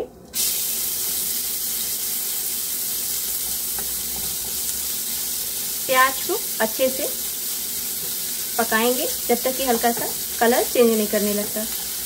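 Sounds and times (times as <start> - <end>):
onion sizzling in oil: 0.4 - 12.0.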